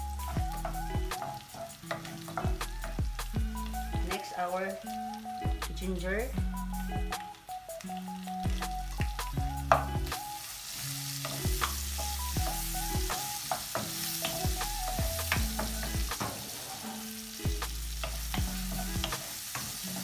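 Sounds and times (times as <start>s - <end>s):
garlic sizzling in hot oil: 0.0s - 20.0s
soft background music: 0.0s - 20.0s.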